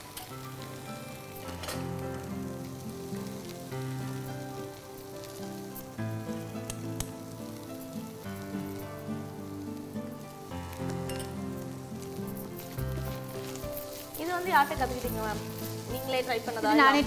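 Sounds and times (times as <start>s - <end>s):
food frying with light sizzle: 0.0s - 17.0s
instrumental background music: 0.0s - 17.0s.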